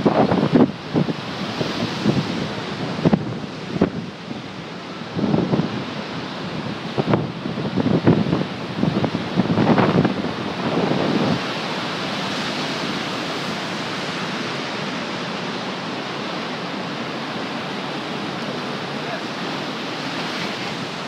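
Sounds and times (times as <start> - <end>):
ocean surf rushing: 0.0 - 21.0.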